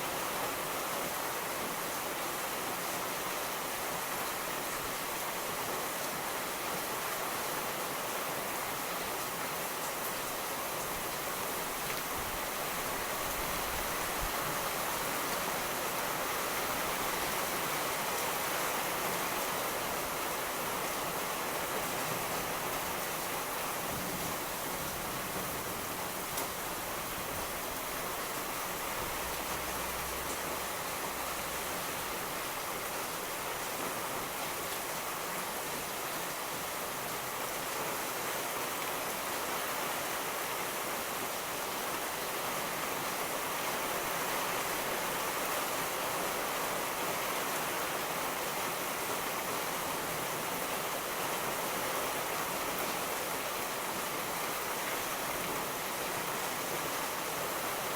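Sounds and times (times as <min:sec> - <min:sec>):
heavy rain falling: 0:08.5 - 0:57.9.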